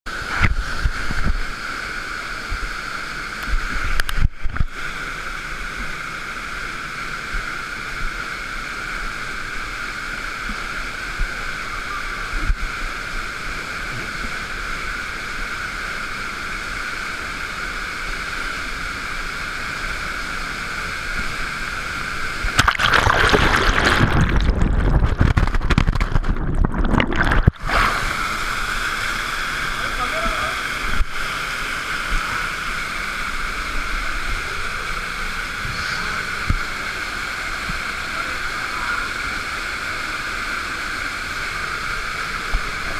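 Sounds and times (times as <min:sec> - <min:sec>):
stream and waterfall rushing: 0:00.1 - 0:24.2, 0:27.5 - 0:42.9.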